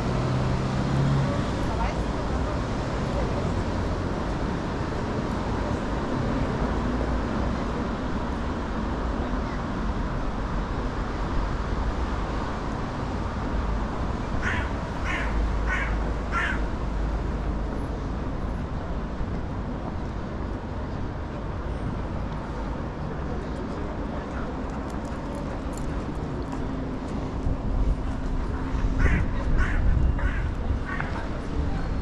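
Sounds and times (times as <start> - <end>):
street traffic noise: 0.0 - 32.0.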